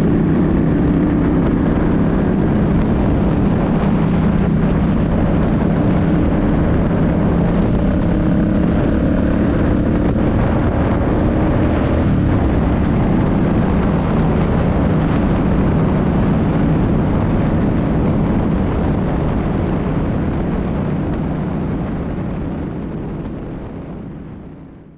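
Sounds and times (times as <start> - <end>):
wind rushing: 0.0 - 24.8
motorcycle engine running: 0.0 - 24.9.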